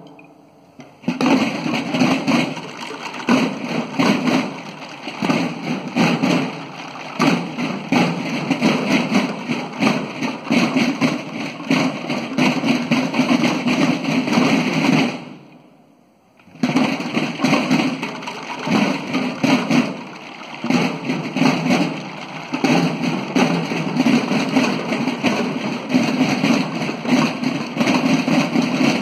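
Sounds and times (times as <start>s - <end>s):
drum corps playing cadence: 0.0s - 15.7s, 16.4s - 29.0s.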